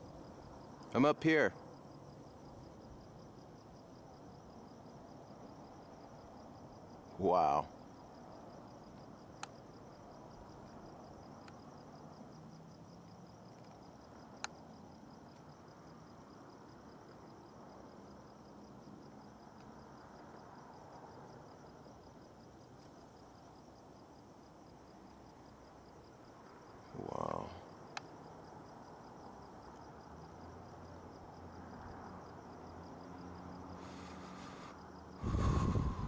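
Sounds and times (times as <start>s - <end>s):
background hiss: 0.0s - 36.0s
crickets chirping: 0.0s - 36.0s.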